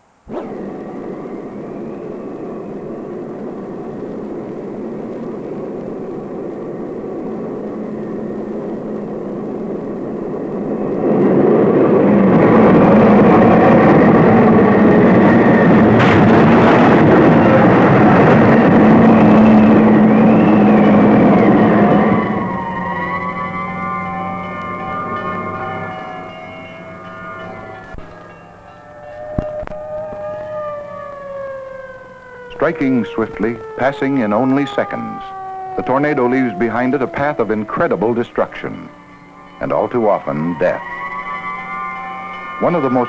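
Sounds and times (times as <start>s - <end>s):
faint held tones: 0.0s - 43.0s
rushing wind roar: 0.0s - 43.0s.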